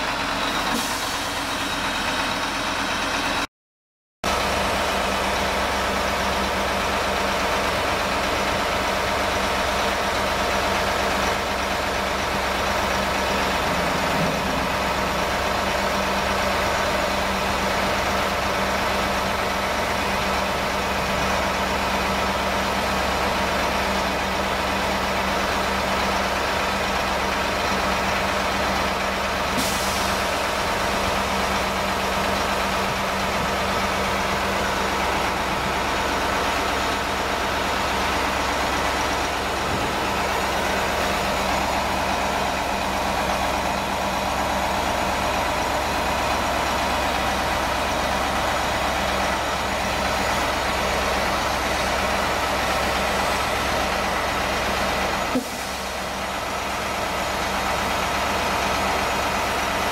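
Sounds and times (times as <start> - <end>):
truck diesel engine running: 0.0 - 3.5, 4.3 - 59.9.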